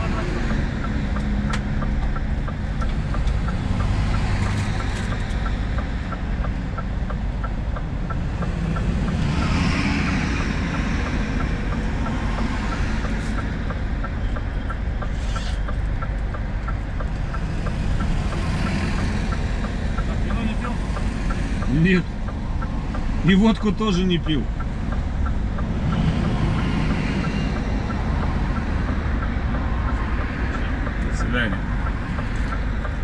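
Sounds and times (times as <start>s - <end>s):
light regular ticking: 0.0s - 33.0s
truck engine and road noise: 0.0s - 33.0s.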